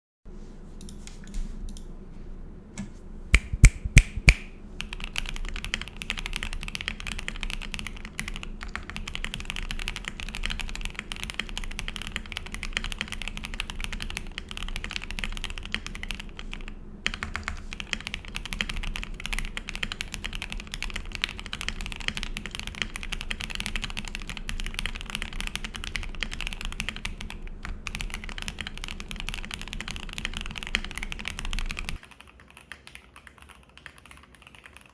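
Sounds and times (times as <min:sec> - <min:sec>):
mechanical keyboard typing: 0:03.4 - 0:34.9.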